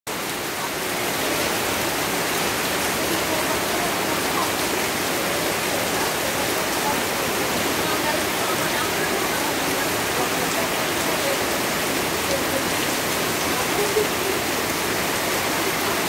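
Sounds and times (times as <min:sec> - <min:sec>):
heavy rain on pavement and shrubs: 0:00.1 - 0:16.0.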